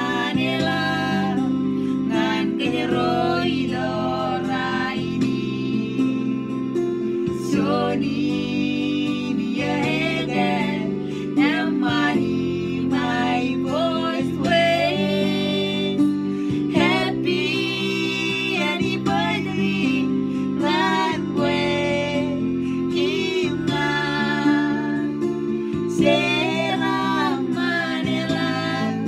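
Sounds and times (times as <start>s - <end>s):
electronic keyboard chords: 0.0s - 29.0s
woman and man singing: 2.1s - 6.1s, 7.4s - 16.1s, 16.7s - 25.2s, 25.9s - 29.0s.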